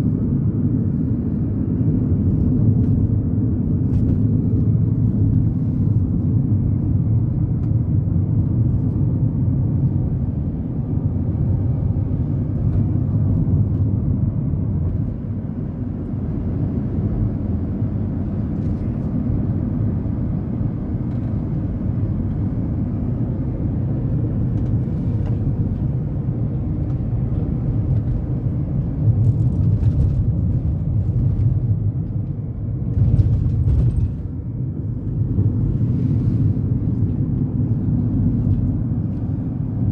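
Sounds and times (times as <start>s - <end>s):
road and engine rumble in car: 0.0s - 39.9s.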